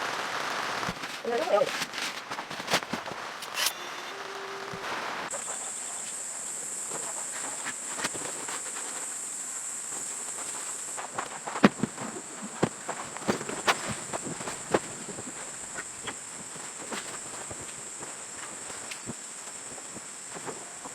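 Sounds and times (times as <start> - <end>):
soft hiss: 0.0 - 20.9
high-pitched insect call: 3.4 - 20.9.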